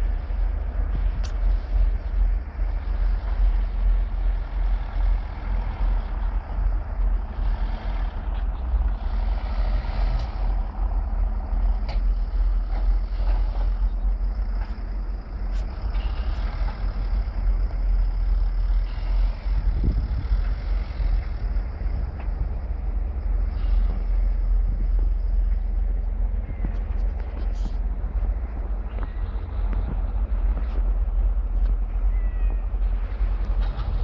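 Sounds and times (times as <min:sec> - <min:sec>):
off-road vehicle engine rumbling: 0:00.0 - 0:34.0.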